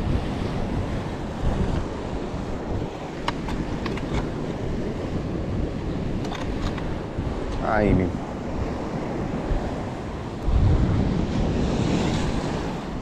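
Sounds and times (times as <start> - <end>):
sea waves on shore: 0.0 - 13.0
wind buffeting microphone: 0.0 - 13.0.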